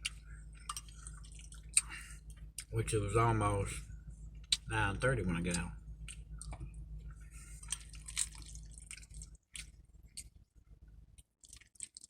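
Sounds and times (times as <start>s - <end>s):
wet chewing and smacking: 0.0s - 2.8s, 4.3s - 4.7s, 5.5s - 12.0s.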